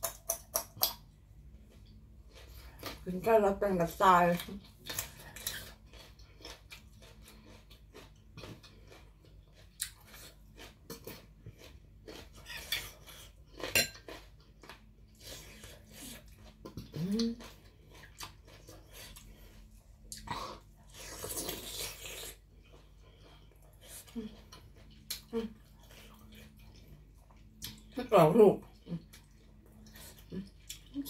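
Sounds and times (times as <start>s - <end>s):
soft chewing: 0.0s - 28.0s, 28.6s - 31.0s.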